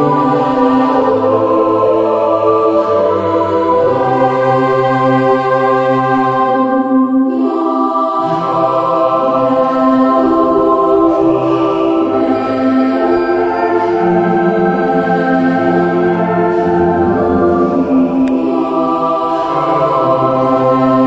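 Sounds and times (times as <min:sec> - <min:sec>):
slow sustained chords: 0:00.0 - 0:21.0.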